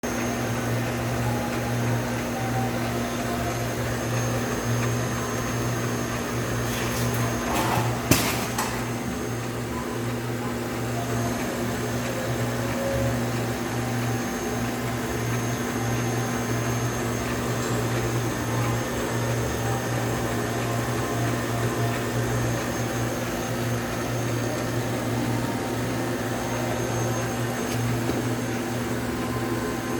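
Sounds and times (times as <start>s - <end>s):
machine motor humming: 0.0s - 29.9s.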